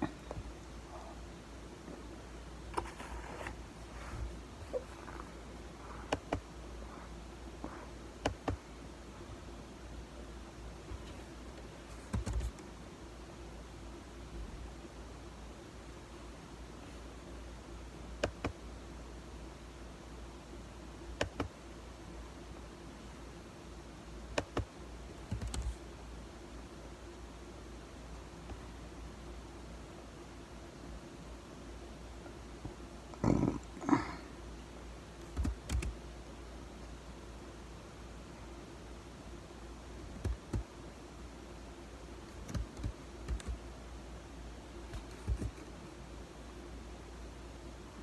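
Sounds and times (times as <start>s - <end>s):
faint low hum: 0.0s - 48.0s.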